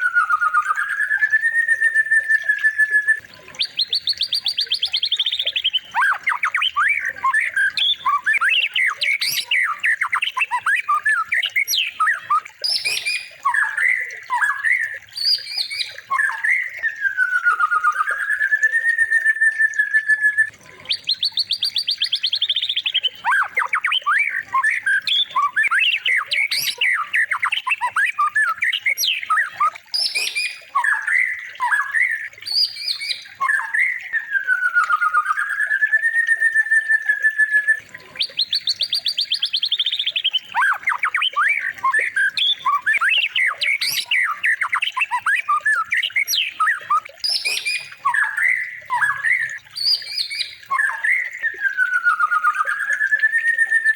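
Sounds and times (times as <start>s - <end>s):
songbird trills and chirps: 0.0s - 53.9s.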